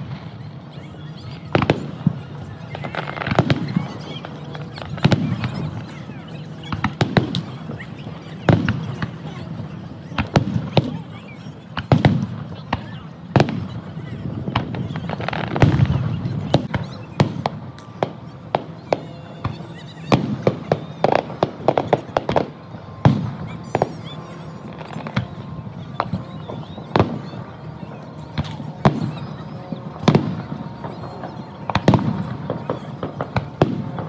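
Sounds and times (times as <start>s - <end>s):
fireworks bangs: 0.0s - 34.0s.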